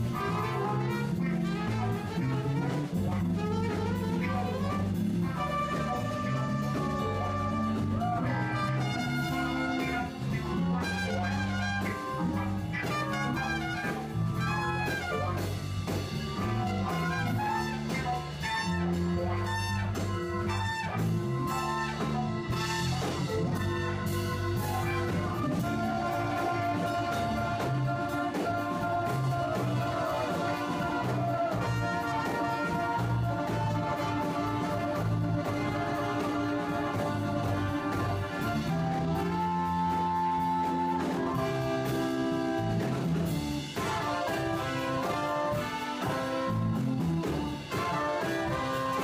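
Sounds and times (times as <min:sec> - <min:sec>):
jazz band playing: 0:00.0 - 0:49.0
trumpet melody: 0:00.0 - 0:49.0.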